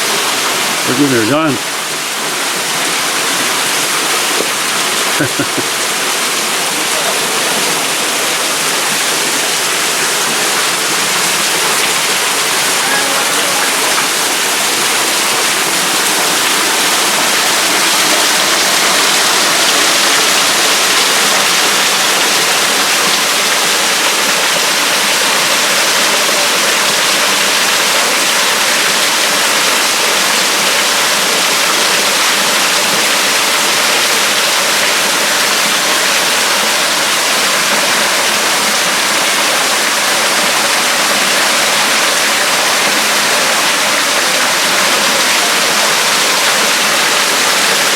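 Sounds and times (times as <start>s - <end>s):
waterfall pouring onto rocks: 0.0s - 47.9s.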